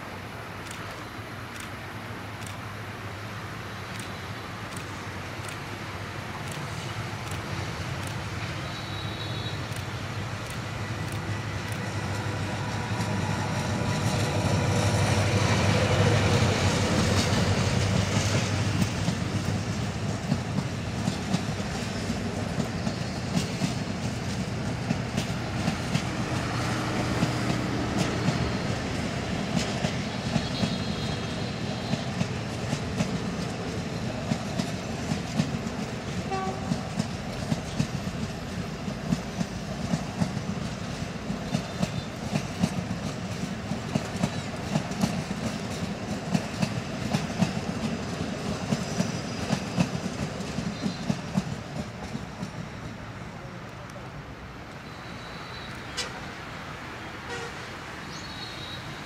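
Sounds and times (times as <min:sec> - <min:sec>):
clickety-clack of wheels on rail joints: 0:00.0 - 0:02.8, 0:03.5 - 0:56.3
diesel locomotive engine drone: 0:00.0 - 0:59.0
train coaches rumbling past: 0:00.0 - 0:59.0.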